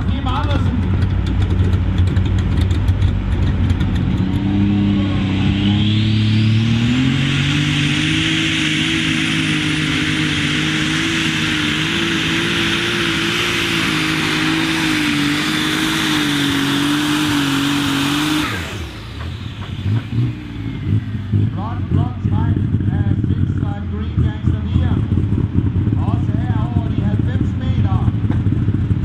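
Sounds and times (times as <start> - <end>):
diesel engine at full throttle: 0.0 - 29.0
high turbo whine: 0.0 - 29.0.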